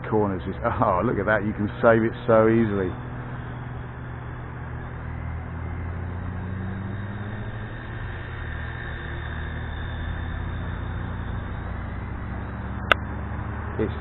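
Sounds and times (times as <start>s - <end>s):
rc helicopter motor hum: 0.0s - 14.0s.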